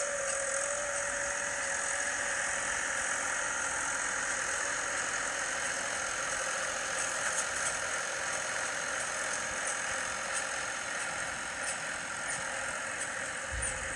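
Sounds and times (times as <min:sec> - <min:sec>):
farm machinery engine droning: 0:00.0 - 0:13.9.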